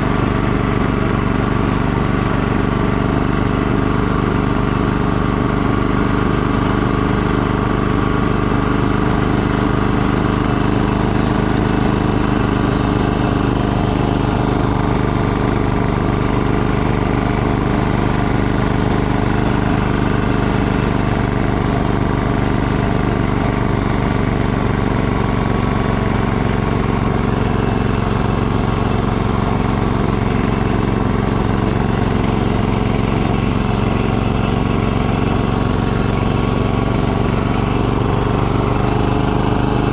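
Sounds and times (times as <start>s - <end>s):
snowblower running: 0.0s - 39.9s.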